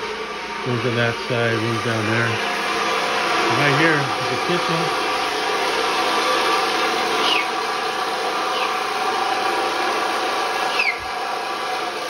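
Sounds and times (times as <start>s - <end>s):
floor scraper running: 0.0s - 12.0s.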